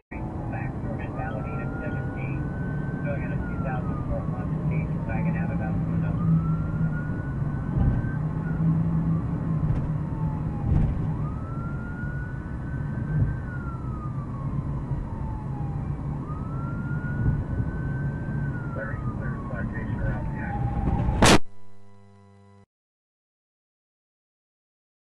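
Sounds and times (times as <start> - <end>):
siren wailing: 0.1 - 21.4
car engine and road noise: 0.1 - 22.0.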